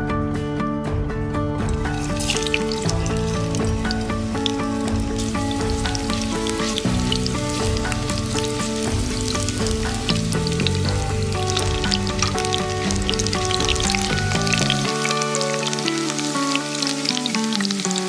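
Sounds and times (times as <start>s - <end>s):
background music: 0.0s - 18.0s
food sizzling in a pan: 1.7s - 18.0s.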